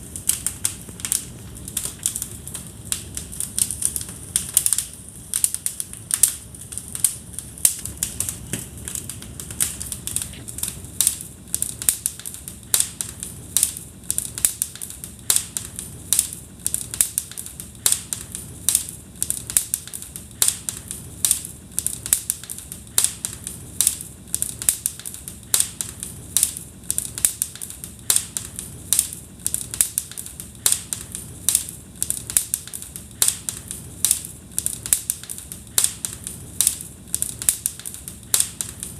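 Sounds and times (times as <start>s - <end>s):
low rumble of burning logs: 0.0s - 38.9s
wood fire crackling: 0.0s - 38.9s.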